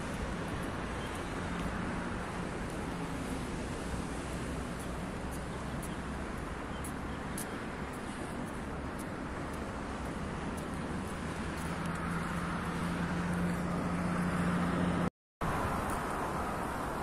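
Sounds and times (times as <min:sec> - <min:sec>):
city road traffic: 0:00.0 - 0:17.0
engine hum: 0:00.0 - 0:17.0.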